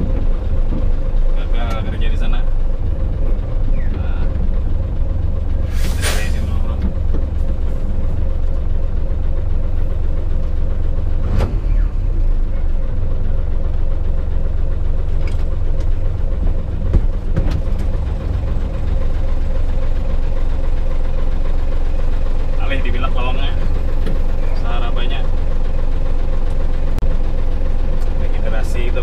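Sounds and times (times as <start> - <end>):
constant hum: 0.0 - 29.0
heavy truck engine rumble: 0.0 - 29.0.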